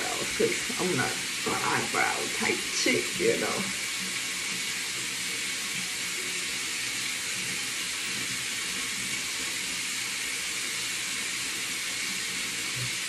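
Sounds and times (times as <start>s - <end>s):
sink tap running water: 0.0s - 13.0s.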